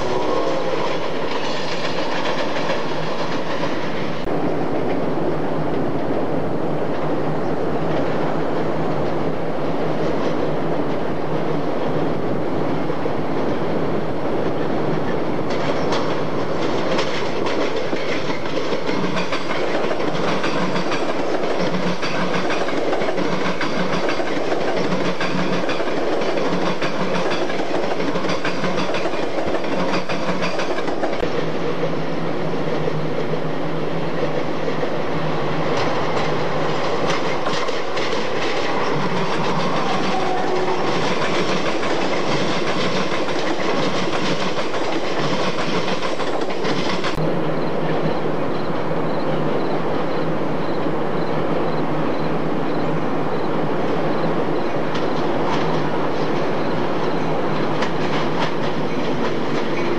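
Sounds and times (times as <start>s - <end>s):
clickety-clack over rail joints: 0.0s - 5.1s, 5.7s - 12.1s, 12.7s - 51.4s, 52.1s - 59.9s
train wheels rumbling on rail: 0.0s - 59.9s.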